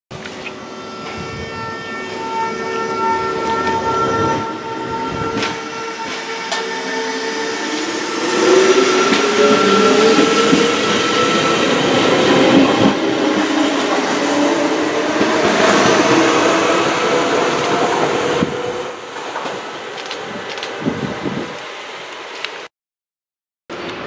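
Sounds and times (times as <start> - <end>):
electric train passing: 0.2 - 22.7.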